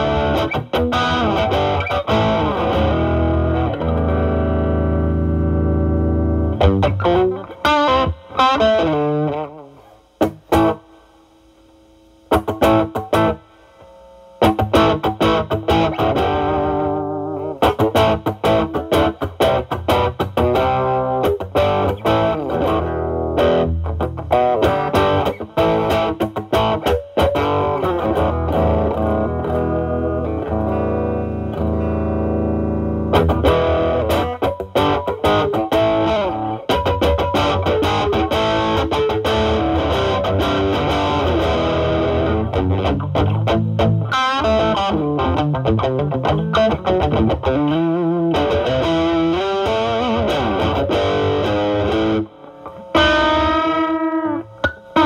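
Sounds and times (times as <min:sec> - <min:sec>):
lightly overdriven electric guitar: 0:00.0 - 0:55.0.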